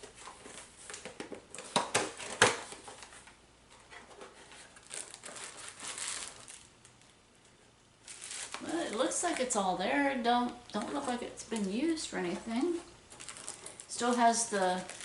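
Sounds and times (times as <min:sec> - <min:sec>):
packaging crinkling and rustling: 0:00.0 - 0:07.2, 0:08.0 - 0:09.6, 0:10.4 - 0:15.0.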